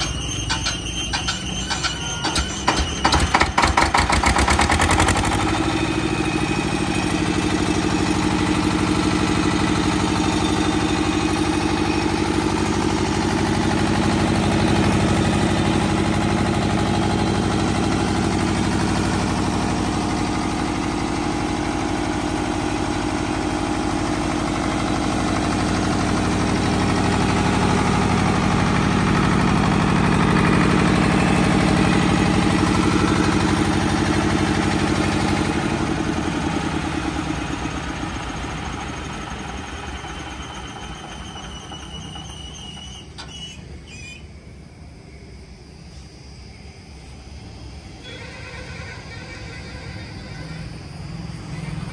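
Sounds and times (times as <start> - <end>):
diesel generator running: 0.0 - 51.9.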